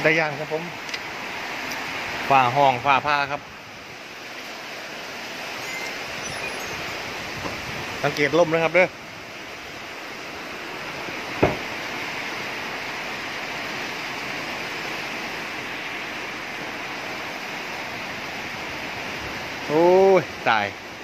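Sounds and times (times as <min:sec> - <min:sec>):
storm wind gusting through trees: 0:00.0 - 0:21.0.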